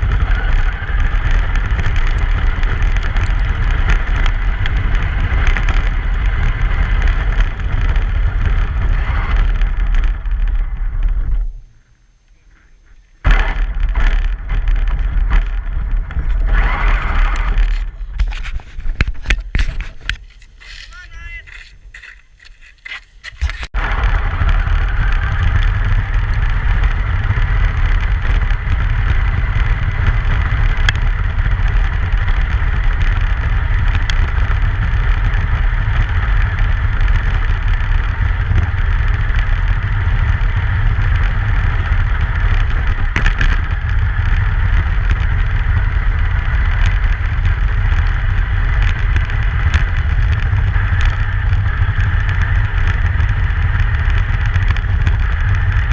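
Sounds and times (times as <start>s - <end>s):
truck road rumble: 0.0s - 55.9s.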